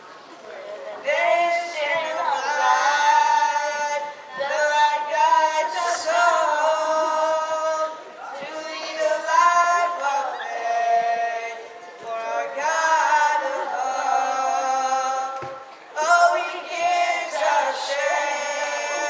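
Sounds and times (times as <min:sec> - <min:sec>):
person singing into a microphone: 0:00.6 - 0:19.0.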